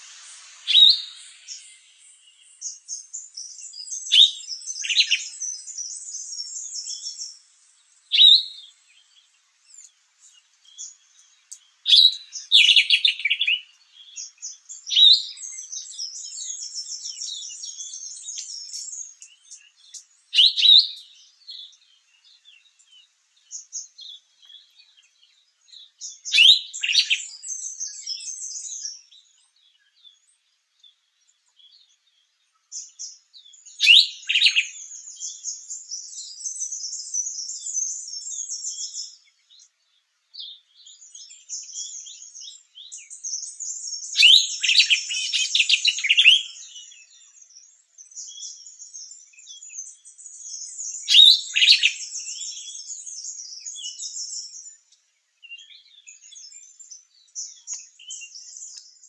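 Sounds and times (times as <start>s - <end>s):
small birds twittering: 0.0s - 59.0s.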